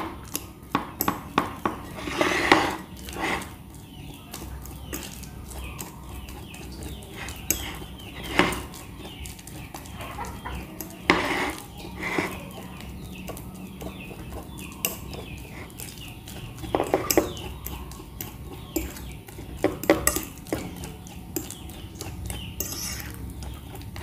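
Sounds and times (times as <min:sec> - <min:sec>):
chickens clucking: 0:00.0 - 0:24.0
fork mashing bananas in glass bowl: 0:00.0 - 0:24.0.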